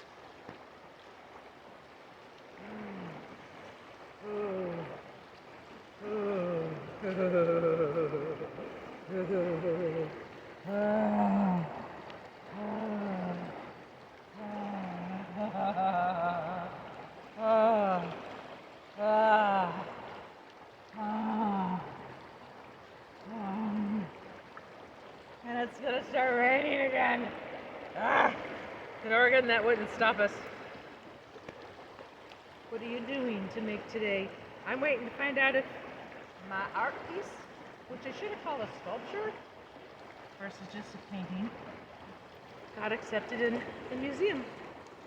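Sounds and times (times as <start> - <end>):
running water hiss: 0.0 - 45.0.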